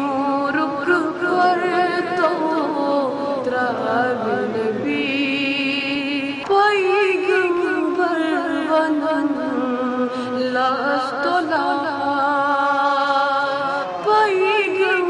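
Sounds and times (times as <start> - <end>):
boy singing: 0.0 - 15.0.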